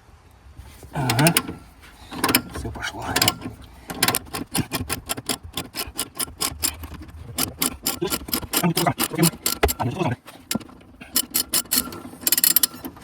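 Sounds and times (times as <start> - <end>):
ratchet wrench clicking: 1.0 - 13.0.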